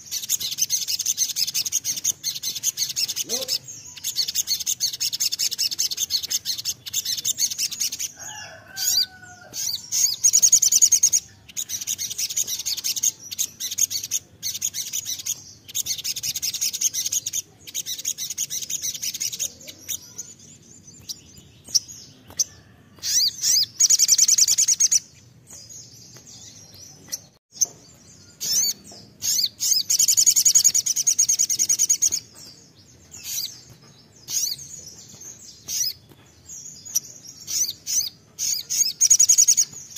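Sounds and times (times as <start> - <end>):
bird high-pitched trilling: 0.0 - 39.9.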